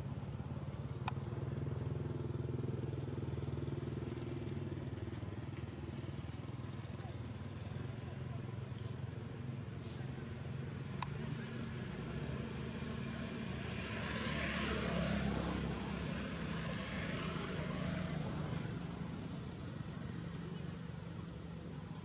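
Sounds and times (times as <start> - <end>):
distant engine drone: 0.0 - 22.0.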